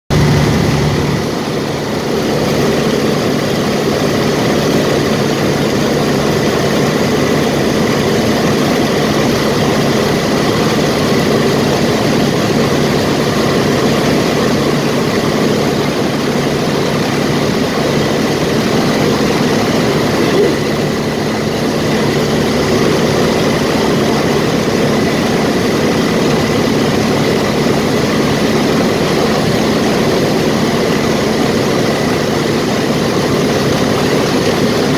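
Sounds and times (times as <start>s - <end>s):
light aircraft engine droning: 0.1s - 34.9s.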